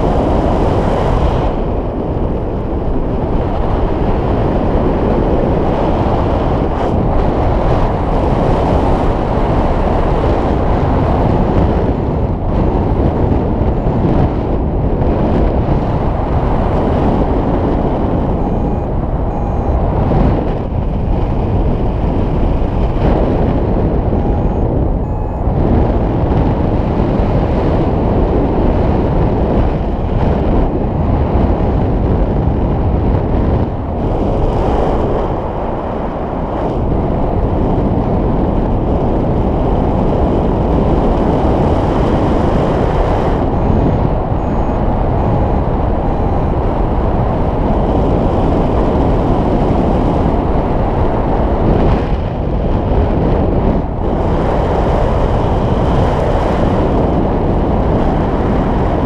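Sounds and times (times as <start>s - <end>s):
wind rushing on microphone: 0.0s - 59.0s.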